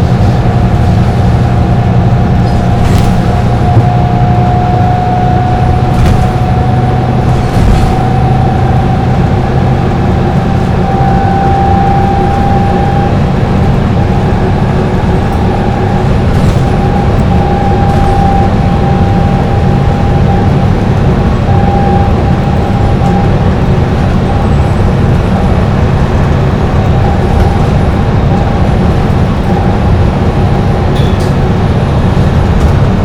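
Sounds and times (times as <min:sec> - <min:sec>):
bus diesel engine drone: 0:00.0 - 0:33.0
transmission whine: 0:00.0 - 0:33.0.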